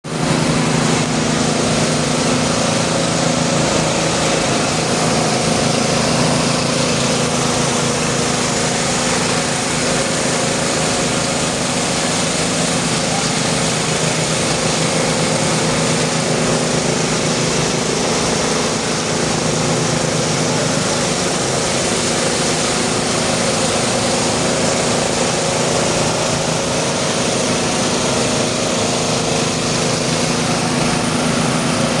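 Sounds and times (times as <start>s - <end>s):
small engine running steadily: 0.0s - 32.0s.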